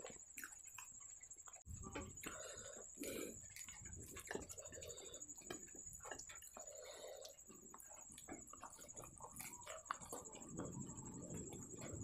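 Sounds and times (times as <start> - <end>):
chewing and mouth clicks: 0.0 - 12.0
soft squishes of food: 0.0 - 12.0.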